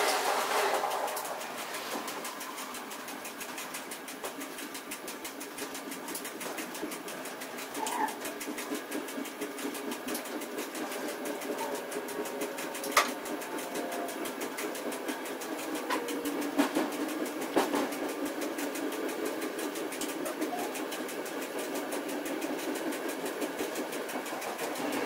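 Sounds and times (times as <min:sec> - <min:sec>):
fast rattle in cab: 0:00.0 - 0:25.0
train rumbling on rails: 0:00.0 - 0:25.0.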